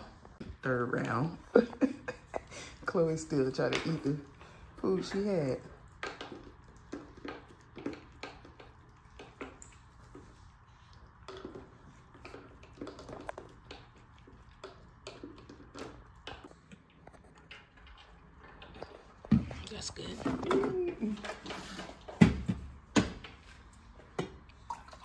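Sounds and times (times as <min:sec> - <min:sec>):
dogs eating from bowls: 0:00.0 - 0:25.0.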